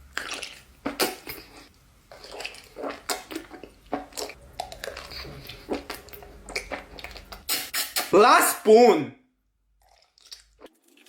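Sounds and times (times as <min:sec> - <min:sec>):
noodles slurped and chewed: 0:00.0 - 0:08.0, 0:09.8 - 0:11.0.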